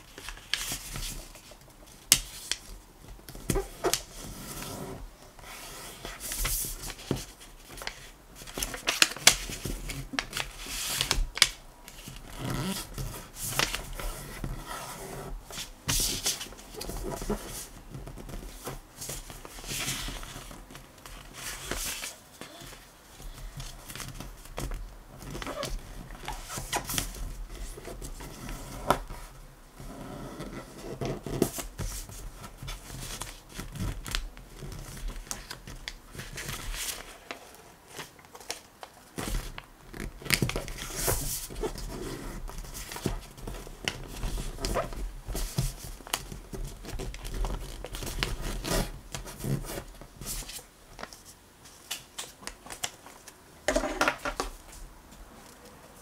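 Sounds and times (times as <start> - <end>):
paper rustling and crinkling: 0.0 - 29.4, 30.7 - 56.0.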